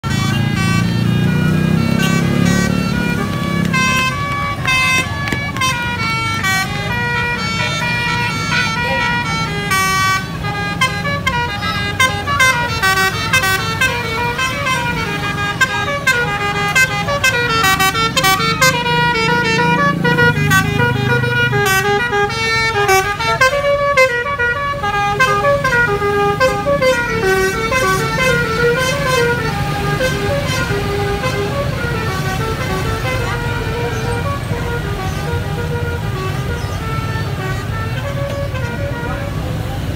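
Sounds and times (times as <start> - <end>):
bus engine running low: 0.0 - 39.9
multi-tone musical bus horn: 0.0 - 39.9.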